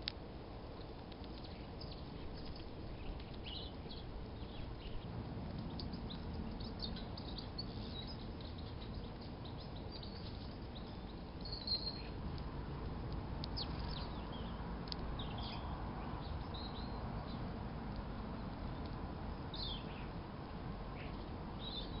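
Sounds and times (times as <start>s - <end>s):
low background rumble: 0.0s - 22.0s
small birds chirping: 0.6s - 22.0s.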